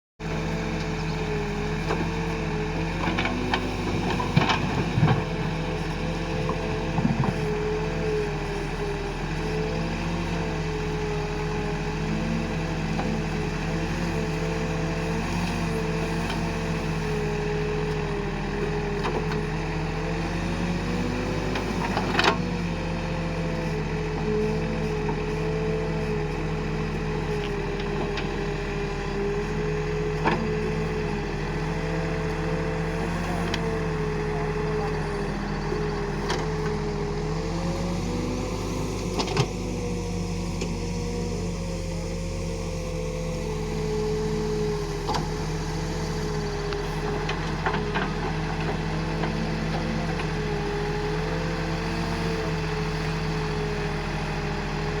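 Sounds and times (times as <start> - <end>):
diesel engine running: 0.2 - 55.0.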